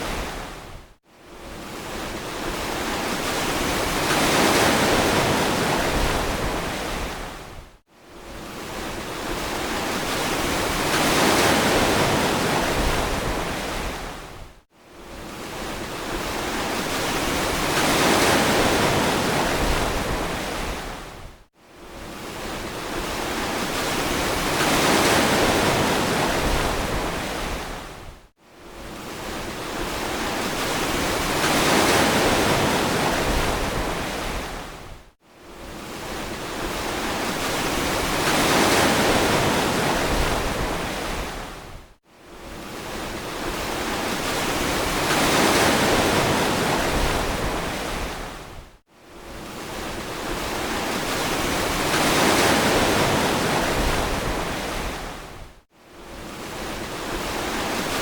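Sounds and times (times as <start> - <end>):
ocean waves washing on beach: 0.0 - 58.0.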